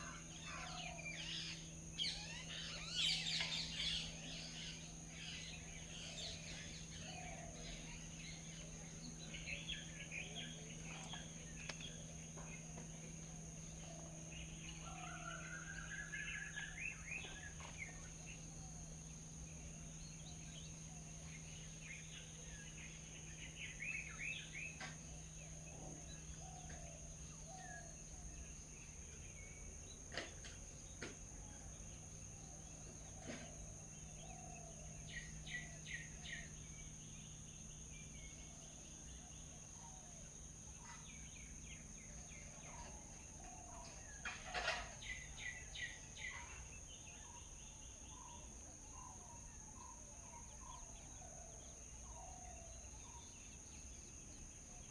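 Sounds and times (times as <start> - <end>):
birds chirping: 0.0 - 54.9
low hum: 0.0 - 54.9.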